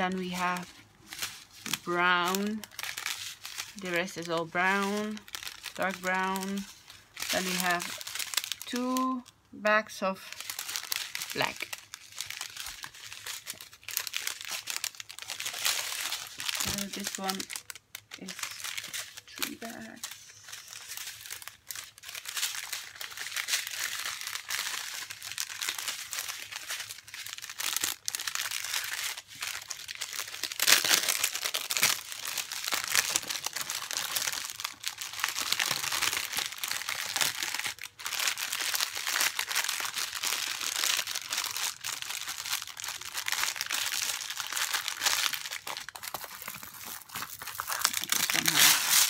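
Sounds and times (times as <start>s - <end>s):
plastic packaging crinkling: 0.0s - 49.0s.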